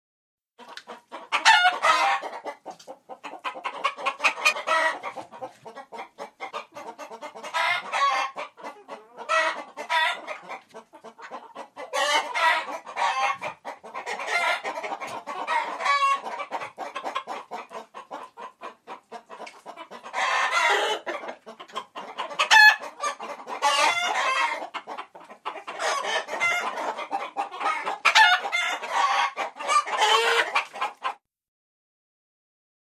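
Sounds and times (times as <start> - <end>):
chickens clucking: 0.6 - 31.2.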